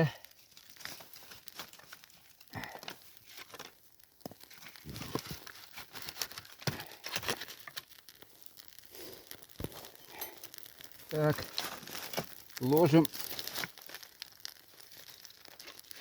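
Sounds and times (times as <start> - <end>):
tinder crackling and rustling: 0.0 - 16.0.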